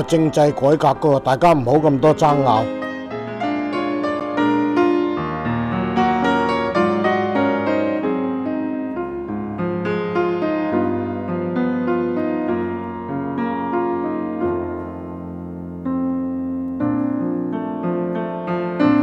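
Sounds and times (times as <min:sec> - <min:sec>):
piano background music: 0:00.0 - 0:19.0.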